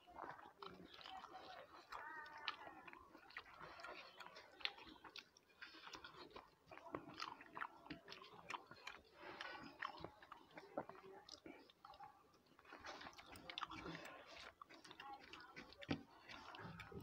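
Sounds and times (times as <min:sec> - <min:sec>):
person chewing with wet mouth sounds: 0:00.0 - 0:17.0.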